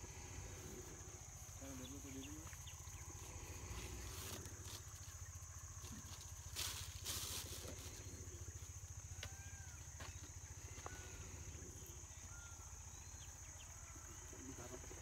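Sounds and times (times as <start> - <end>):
high insect drone: 0.0 - 15.0
low steady hum: 0.0 - 15.0.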